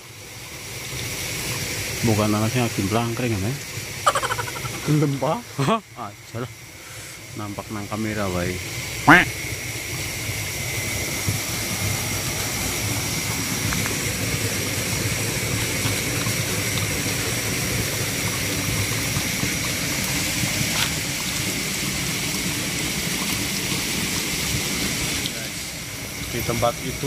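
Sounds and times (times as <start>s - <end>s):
night insects droning: 0.0s - 27.0s
shallow stream flowing: 0.0s - 27.0s.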